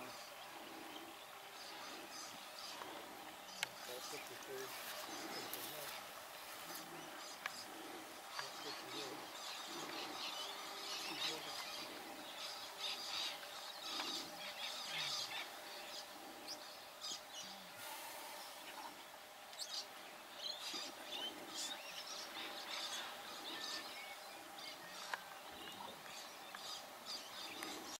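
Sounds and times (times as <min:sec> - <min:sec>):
birds chirping: 0:00.0 - 0:28.0
steady background hush: 0:00.0 - 0:28.0.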